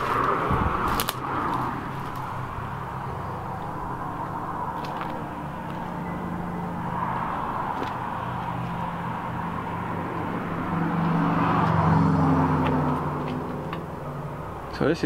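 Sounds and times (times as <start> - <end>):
road traffic engine hum: 0.0 - 15.0
vehicle passing: 0.0 - 15.0.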